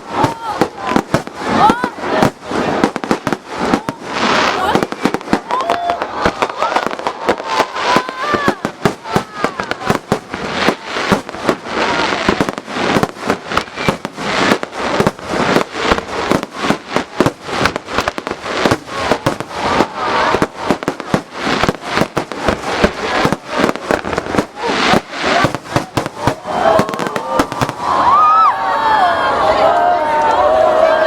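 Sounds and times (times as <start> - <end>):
fireworks barrage: 0.0 - 31.0.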